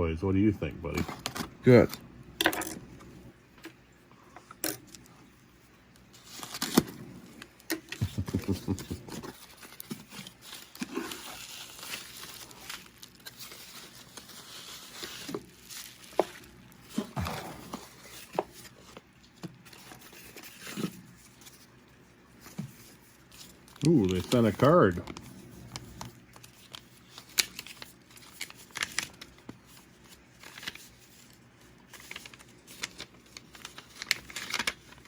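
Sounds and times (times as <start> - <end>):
wrapping crinkling and tearing: 6.0 - 35.0.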